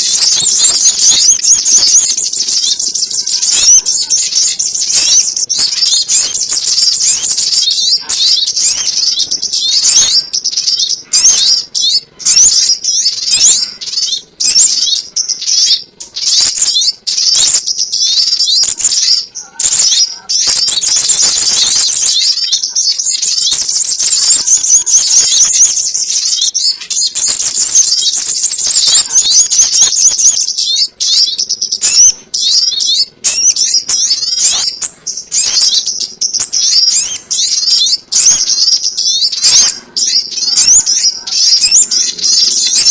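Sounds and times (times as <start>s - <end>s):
bird chirping rapidly: 0.0s - 42.9s.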